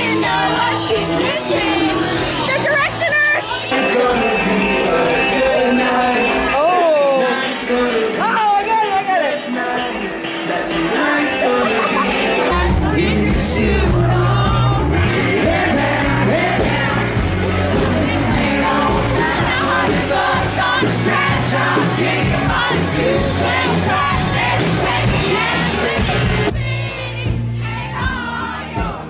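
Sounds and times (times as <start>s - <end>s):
lead singer singing: 0.0s - 2.8s, 3.4s - 29.0s
crowd singing and yelling: 0.0s - 29.0s
live band playing: 0.0s - 29.0s
women singing and shouting: 0.0s - 29.0s.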